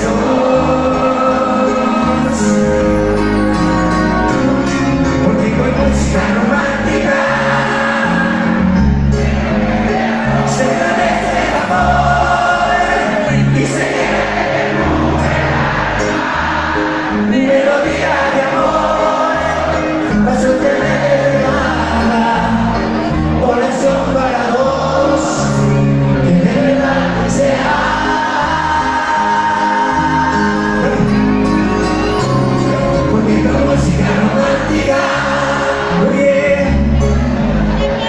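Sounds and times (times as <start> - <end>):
voices singing melody: 0.0 - 3.6, 5.2 - 31.5, 32.8 - 38.0
bass notes: 0.0 - 38.0
live band music: 0.0 - 38.0.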